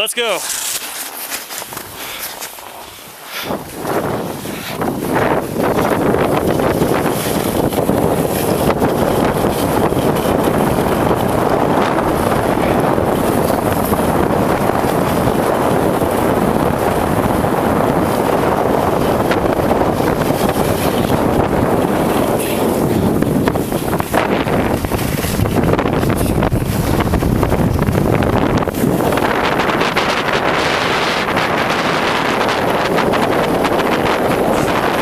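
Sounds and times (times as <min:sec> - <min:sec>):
skis sliding over snow: 0:00.0 - 0:16.4, 0:18.0 - 0:35.0
wind buffeting microphone: 0:01.5 - 0:35.0.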